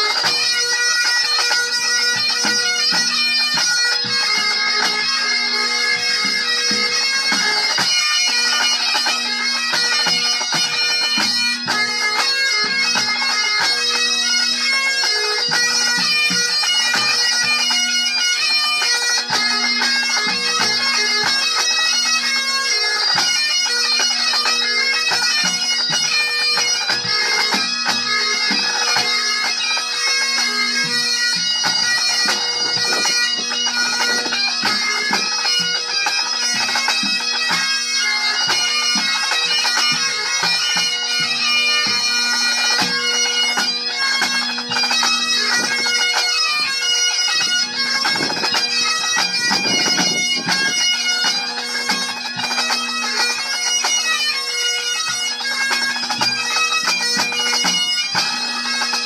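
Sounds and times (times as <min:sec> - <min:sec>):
bagpipes playing: 0:00.0 - 0:59.0.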